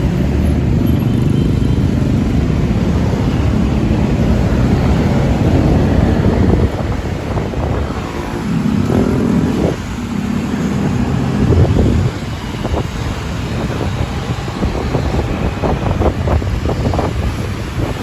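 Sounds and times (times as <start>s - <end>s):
engines revving: 0.0s - 18.0s
road traffic rumble: 0.0s - 18.0s.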